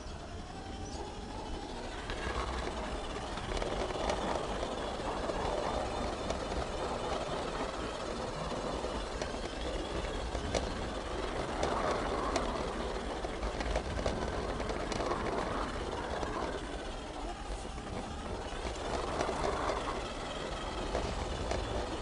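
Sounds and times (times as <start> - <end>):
model train wheels rumbling on rails: 0.0 - 22.0.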